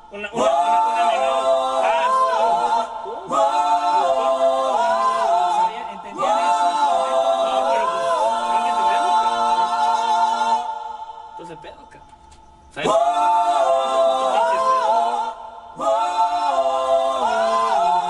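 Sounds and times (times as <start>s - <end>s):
backing vocals in close harmony: 0.0s - 11.5s, 12.8s - 18.0s.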